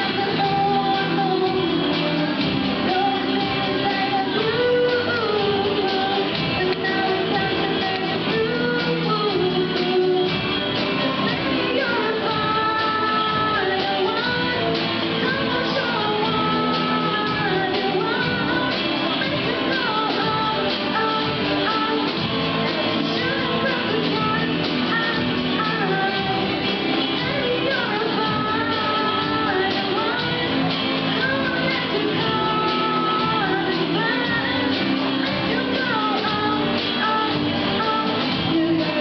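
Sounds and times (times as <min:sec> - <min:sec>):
drums: 0:00.0 - 0:39.0
electric guitar: 0:00.0 - 0:39.0
woman singing: 0:00.0 - 0:39.0.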